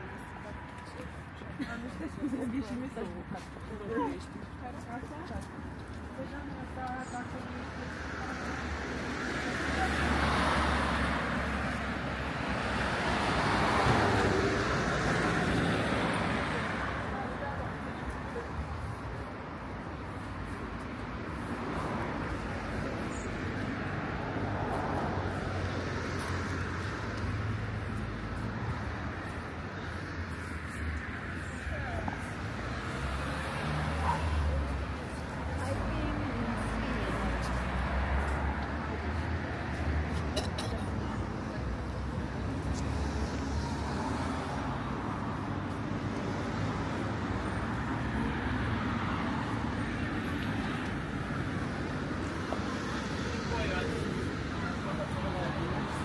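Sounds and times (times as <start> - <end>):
low traffic rumble: 0.0 - 56.0
car passing: 6.2 - 56.0.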